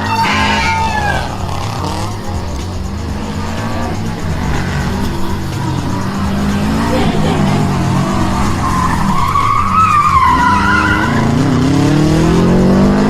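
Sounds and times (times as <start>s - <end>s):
tyre squeal: 0.0s - 12.8s
car engines revving: 0.0s - 13.0s.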